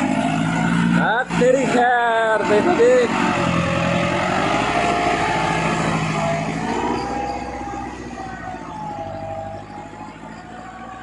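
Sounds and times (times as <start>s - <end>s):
tractor diesel engine labouring: 0.0s - 11.0s.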